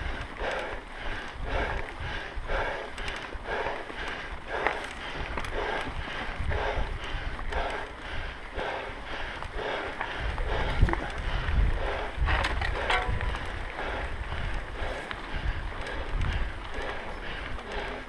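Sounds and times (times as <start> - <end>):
bike rattling and clicking: 0.0 - 18.0
bike tyres rumbling over dirt: 0.0 - 18.0
heavy breathing: 0.0 - 18.0
wind buffeting microphone: 0.0 - 18.0.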